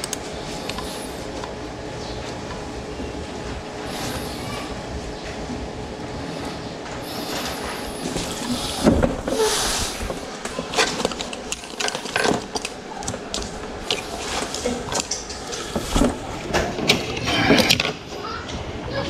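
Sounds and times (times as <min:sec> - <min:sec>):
room noise: 0:00.0 - 0:19.0.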